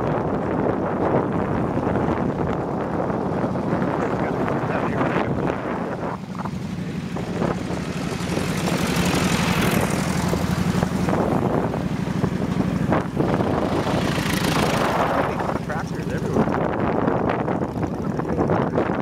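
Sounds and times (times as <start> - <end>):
motorbike engine droning: 0.0 - 19.0
wind buffeting microphone: 0.0 - 19.0.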